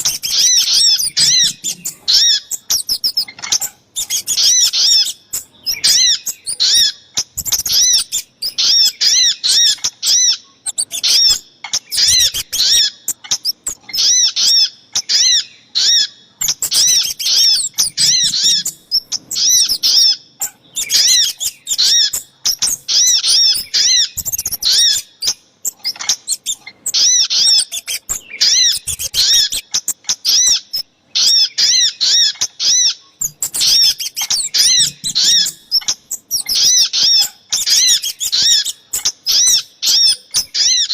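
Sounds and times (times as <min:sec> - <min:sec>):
sharp high bird chirps: 0:00.0 - 0:40.9.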